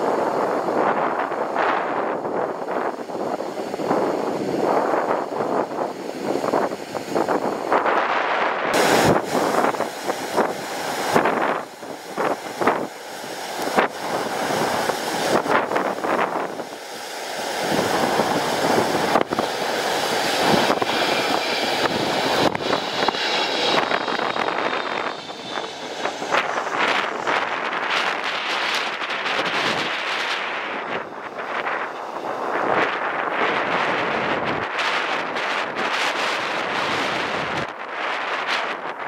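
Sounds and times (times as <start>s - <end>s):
jet engine whine: 0.0s - 39.0s
wind buffeting microphone: 0.0s - 39.0s.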